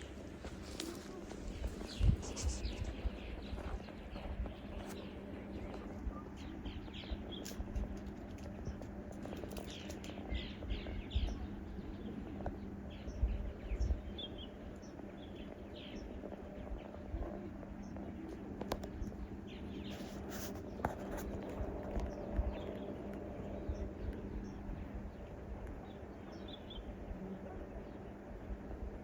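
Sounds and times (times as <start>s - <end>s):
faint steady hum: 0.0s - 29.0s
low uneven rumble: 0.0s - 29.0s
small birds chirping: 0.0s - 29.0s.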